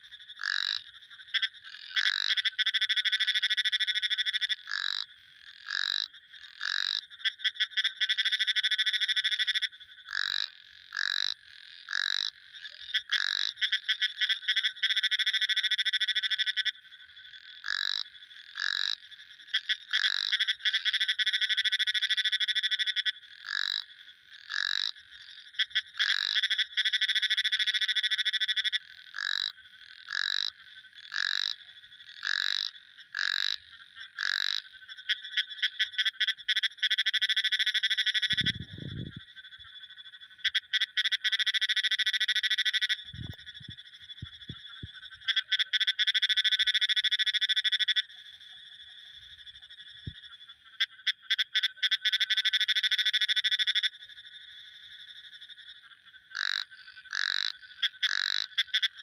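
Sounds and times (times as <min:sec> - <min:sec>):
frogs calling in chorus: 0:00.0 - 0:59.0.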